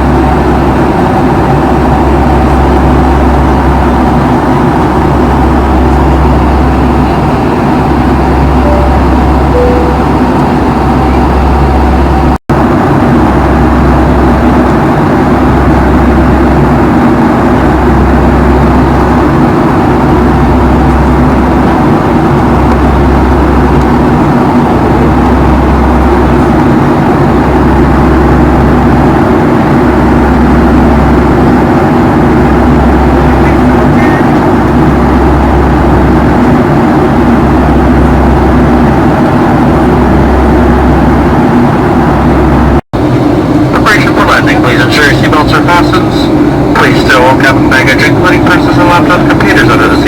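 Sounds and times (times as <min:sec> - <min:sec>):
airplane cabin engine noise: 0:00.0 - 0:50.0
deep pulsing rumble: 0:00.0 - 0:50.0.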